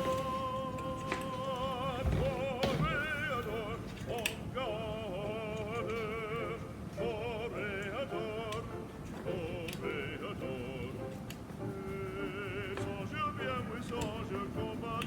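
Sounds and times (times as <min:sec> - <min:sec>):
operatic singing voice: 0:00.0 - 0:15.0
sharp clicks: 0:00.4 - 0:06.7, 0:07.4 - 0:15.0.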